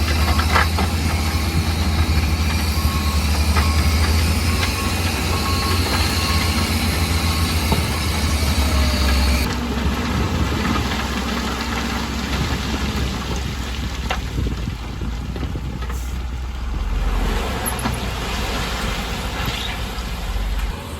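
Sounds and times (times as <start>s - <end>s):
heavy diesel engine running: 0.0s - 20.9s.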